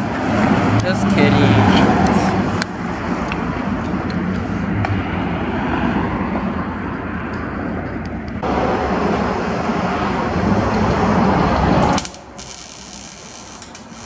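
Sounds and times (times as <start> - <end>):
motor vehicle engine running: 0.0 - 14.0.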